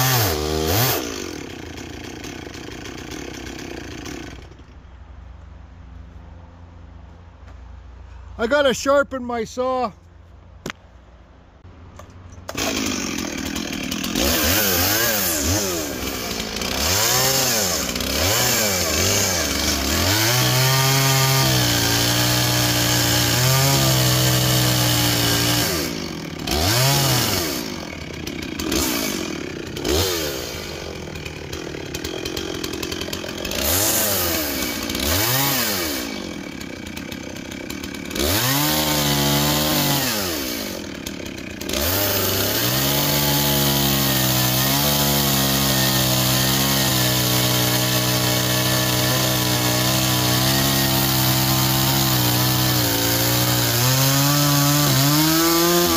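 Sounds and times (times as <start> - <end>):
chainsaws cutting wood: 0.0 - 4.8, 12.0 - 55.9.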